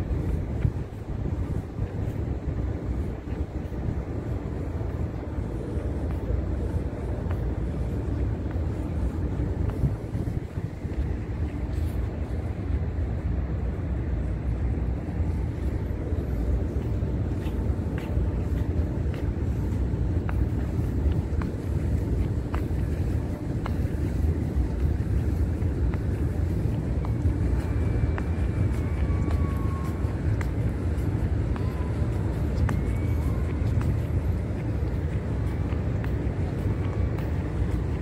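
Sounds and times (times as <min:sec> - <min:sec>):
wind noise on microphone: 0:00.0 - 0:38.0.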